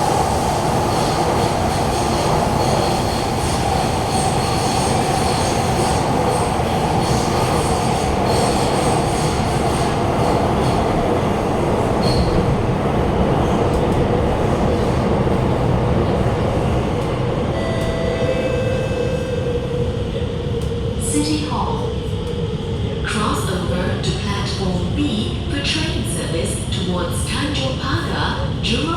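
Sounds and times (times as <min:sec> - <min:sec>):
train wheel-on-rail rumble: 0:00.0 - 0:28.9.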